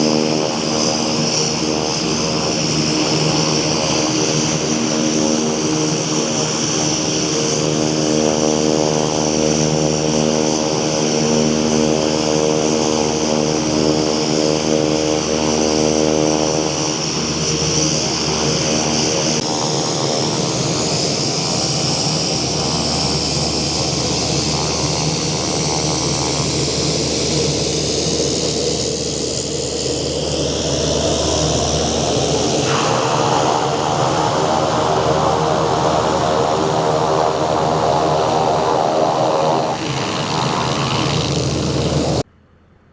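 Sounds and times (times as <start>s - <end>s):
high turbine whine: 0.0s - 42.2s
propeller drone: 0.0s - 42.5s.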